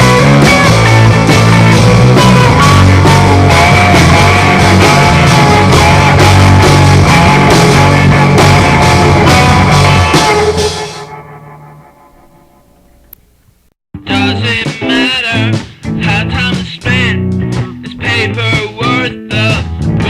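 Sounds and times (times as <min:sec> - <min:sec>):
rock band playing: 0:00.0 - 0:13.1, 0:14.0 - 0:20.0.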